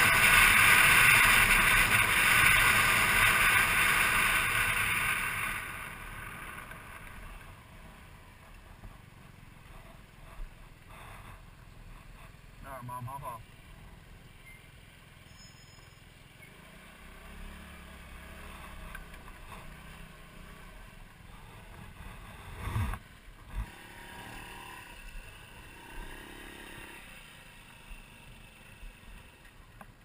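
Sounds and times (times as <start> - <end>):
scooter engine rumbling: 0.0 - 30.0.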